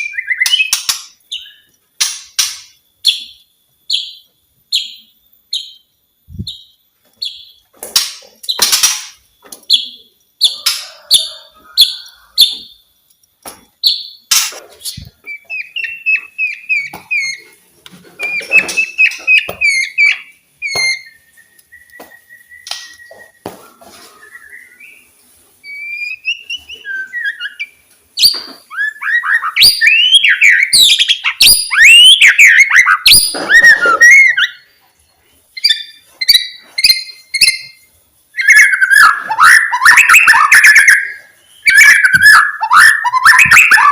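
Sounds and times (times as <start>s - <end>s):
songbird singing: 0.0s - 7.7s, 9.2s - 12.9s, 13.8s - 17.6s, 18.2s - 43.9s.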